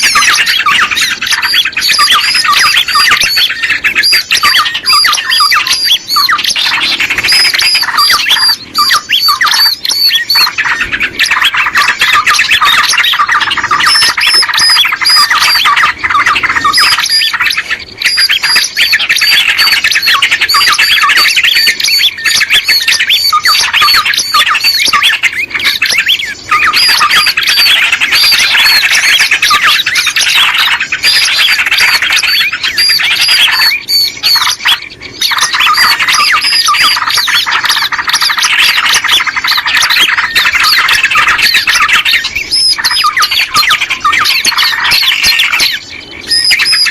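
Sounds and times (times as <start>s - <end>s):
small birds chattering: 0.0s - 46.9s.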